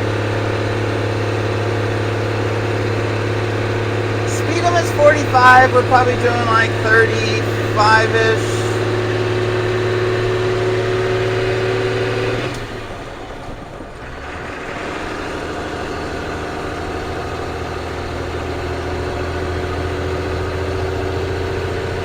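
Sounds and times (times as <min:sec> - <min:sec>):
diesel engine under way: 0:00.0 - 0:22.0.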